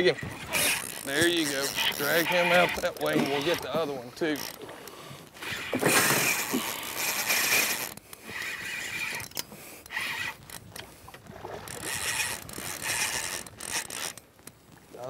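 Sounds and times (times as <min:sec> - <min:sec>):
fishing reel ratcheting: 0:00.0 - 0:10.9, 0:11.6 - 0:14.6.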